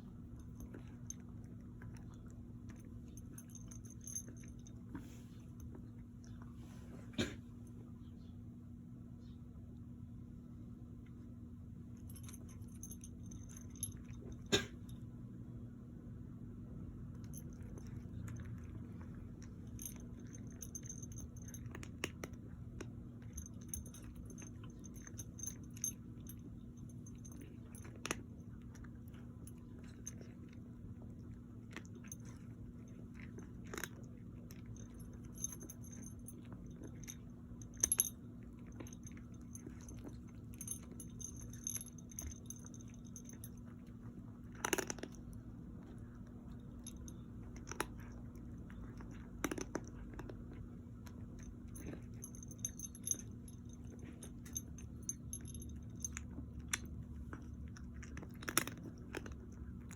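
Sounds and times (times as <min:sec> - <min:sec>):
crunching and clicking of chewing: 0:00.0 - 0:06.5, 0:11.0 - 0:15.1, 0:16.8 - 0:59.9
steady low hum: 0:00.0 - 0:59.9.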